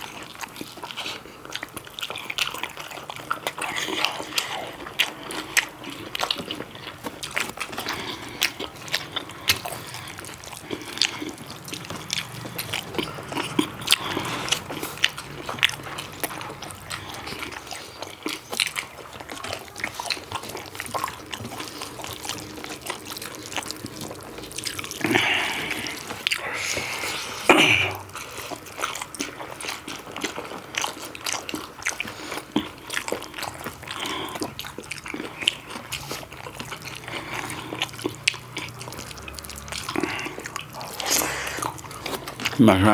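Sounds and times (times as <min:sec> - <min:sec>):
wet chewing and lip-smacking: 0:00.0 - 0:42.9.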